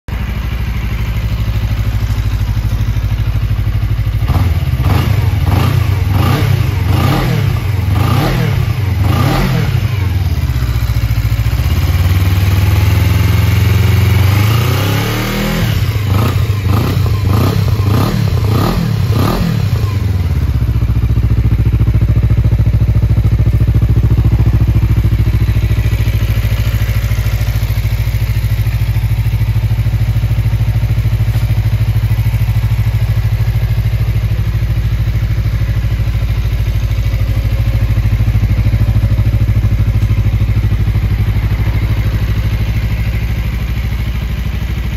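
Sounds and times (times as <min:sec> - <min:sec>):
motorcycle engine revving and idling: 0:00.1 - 0:44.9.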